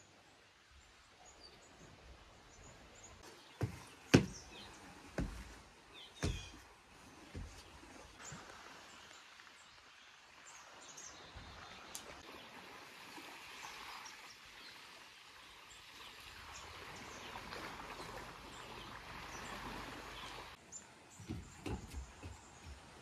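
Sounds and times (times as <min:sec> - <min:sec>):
wind rustling leaves: 0:00.0 - 0:23.0.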